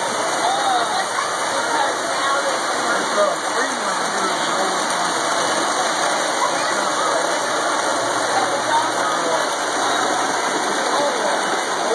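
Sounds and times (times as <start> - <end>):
faint voices: 0.0 - 11.9
model trains rolling whir: 0.0 - 11.9.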